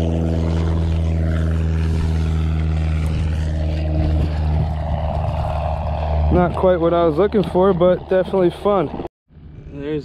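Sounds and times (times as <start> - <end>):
motor humming: 0.0 - 9.1.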